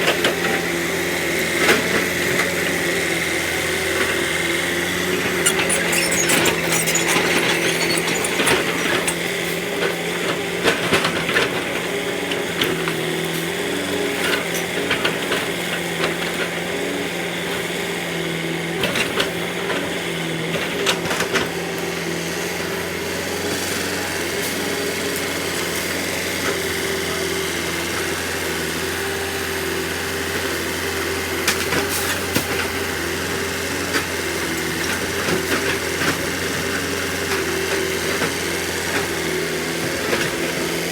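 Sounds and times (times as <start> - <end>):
excavator engine running: 0.1 - 40.9.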